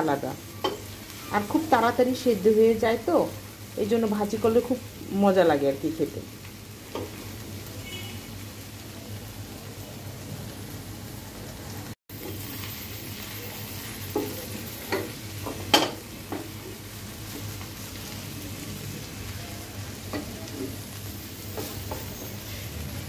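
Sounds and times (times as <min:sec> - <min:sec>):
vegetables sizzling in a pan: 0:00.0 - 0:23.0.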